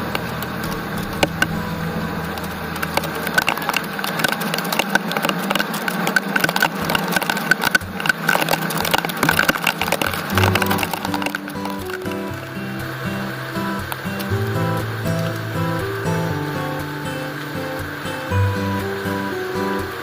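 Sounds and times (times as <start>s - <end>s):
rain hissing: 0.0s - 20.0s
rain ticking on hard surface: 0.0s - 20.0s.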